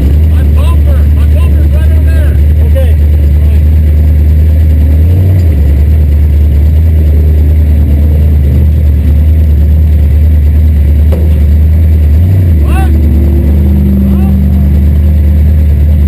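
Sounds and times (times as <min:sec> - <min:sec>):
race car engine droning: 0:00.0 - 0:16.0.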